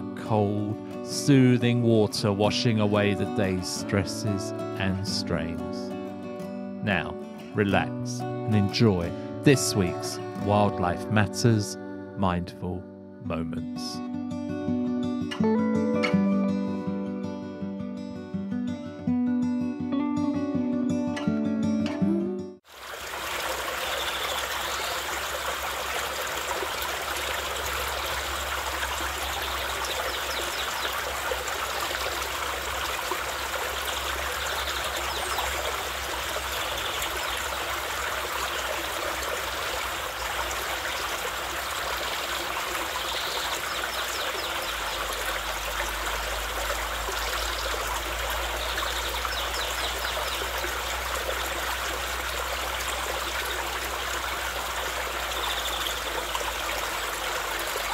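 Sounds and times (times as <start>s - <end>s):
stream flowing and trickling: 0.0s - 12.4s, 22.6s - 57.9s.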